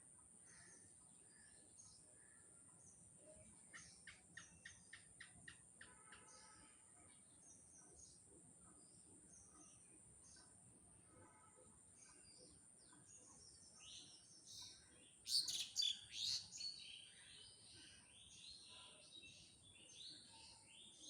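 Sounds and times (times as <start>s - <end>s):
faint birdsong chirps: 0.0s - 21.0s.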